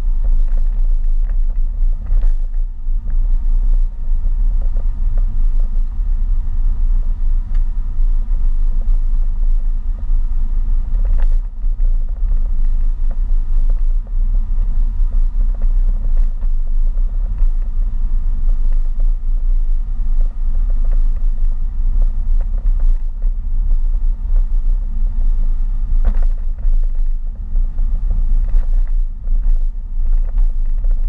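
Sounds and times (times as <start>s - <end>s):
car engine and tyre noise: 0.0s - 31.0s.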